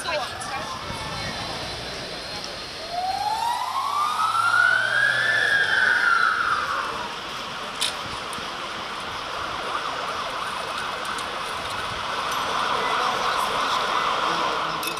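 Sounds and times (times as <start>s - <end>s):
street noise: 0.0s - 14.9s
ambulance siren wailing: 2.7s - 14.8s.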